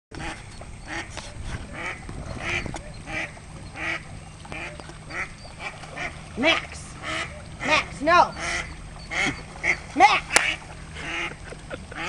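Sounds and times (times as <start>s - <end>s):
duck quacking: 0.2s - 12.0s.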